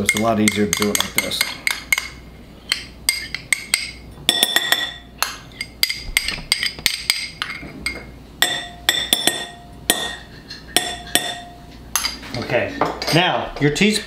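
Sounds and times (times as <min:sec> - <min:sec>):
metal spoon clinking in glass dish: 0:00.0 - 0:12.2.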